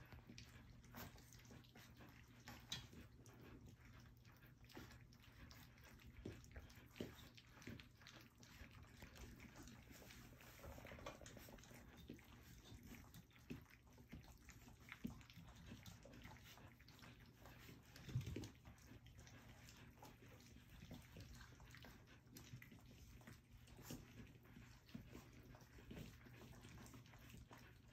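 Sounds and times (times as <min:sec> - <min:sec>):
puppies lapping and smacking food: 0:00.0 - 0:27.9.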